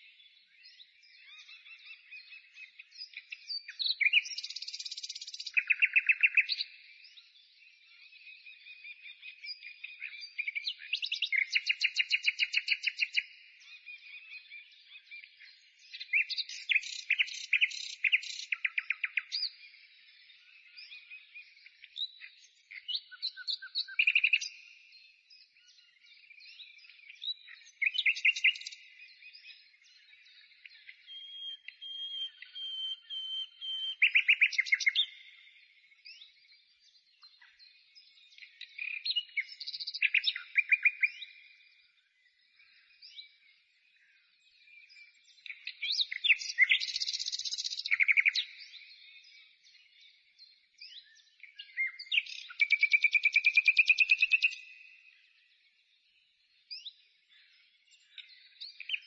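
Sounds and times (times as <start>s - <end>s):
songbird trilling and chirping: 0.0s - 59.0s.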